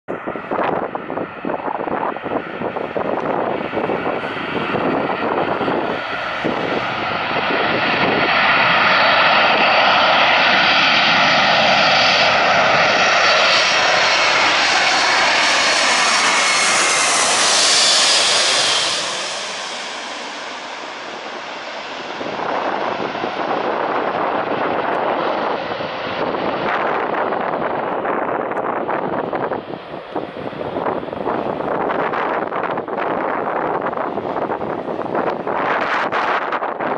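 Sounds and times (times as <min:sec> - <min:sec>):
jet engines passing overhead: 0:00.1 - 0:36.9.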